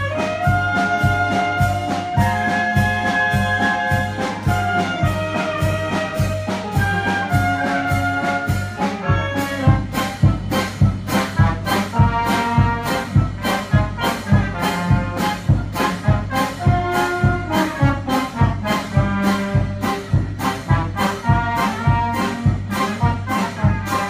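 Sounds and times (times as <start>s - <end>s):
brass melody and chords: 0.0s - 24.0s
percussion beat: 0.0s - 24.0s.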